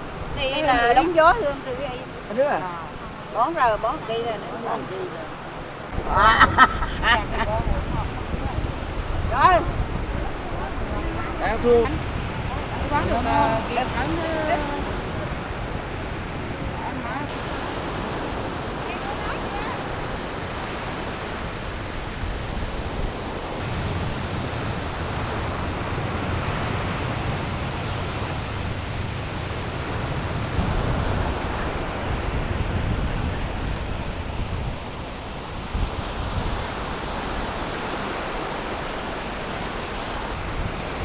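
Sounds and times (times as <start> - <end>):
surf washing: 0.0 - 41.0
wind: 0.0 - 41.0.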